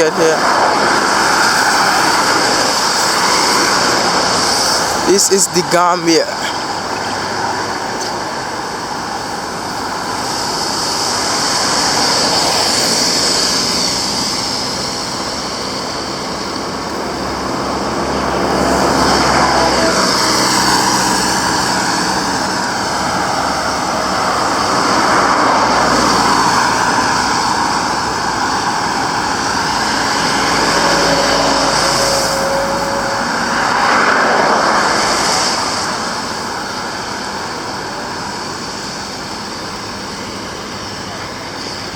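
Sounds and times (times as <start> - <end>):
tyres hissing on wet surface: 0.0 - 41.9
vehicles passing on a wet road: 0.0 - 41.9.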